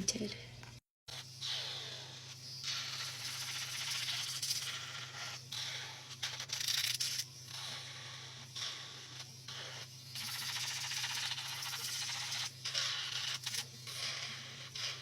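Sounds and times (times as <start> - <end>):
nail file scratching nails: 1.1 - 15.0.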